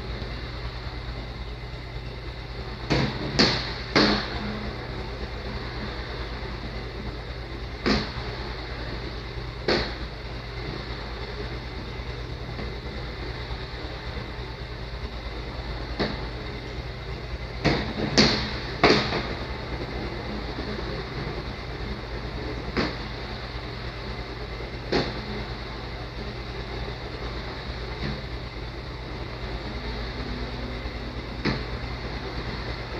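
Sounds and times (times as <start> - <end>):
machine mechanical hum: 0.0 - 32.9.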